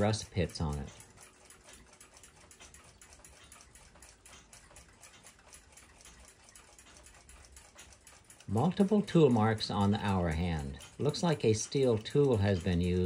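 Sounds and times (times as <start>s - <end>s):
mechanical clock ticking: 0.0s - 13.0s.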